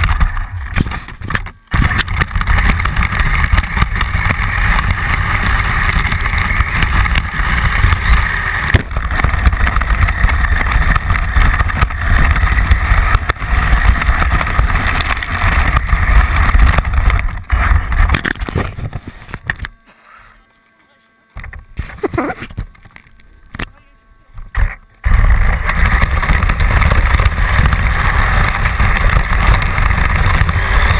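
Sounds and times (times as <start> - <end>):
motorboat engine running: 0.0 - 19.7, 24.4 - 30.9.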